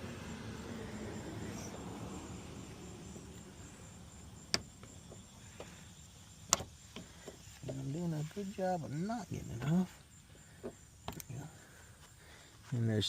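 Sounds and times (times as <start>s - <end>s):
insects humming: 0.0s - 13.0s.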